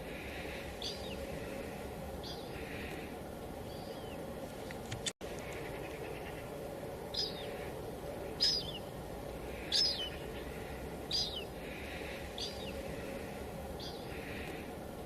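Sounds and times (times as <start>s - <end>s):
bird chirping: 0.0s - 3.0s, 3.6s - 4.3s, 5.3s - 14.6s.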